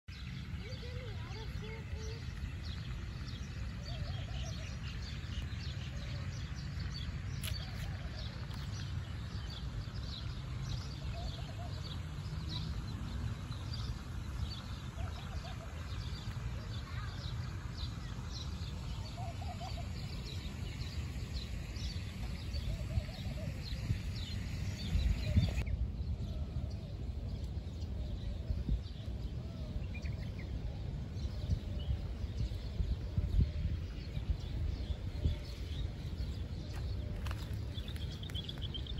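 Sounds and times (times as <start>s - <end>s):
small birds chirping: 0.0s - 38.9s
low outdoor rumble: 0.1s - 38.9s.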